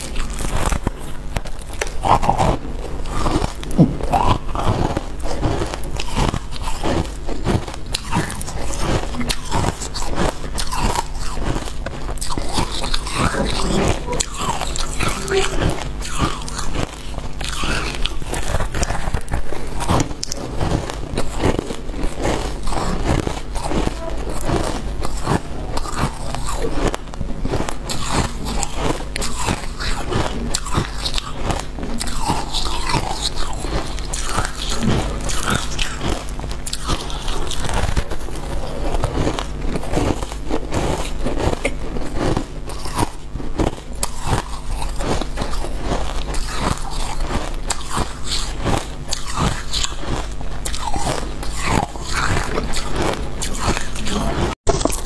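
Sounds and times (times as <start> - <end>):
crunching of chewed frost: 0.0 - 55.0.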